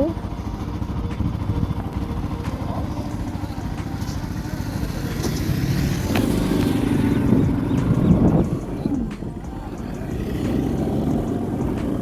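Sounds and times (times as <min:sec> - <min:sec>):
vehicle engine pulsing rumble: 0:00.0 - 0:12.0.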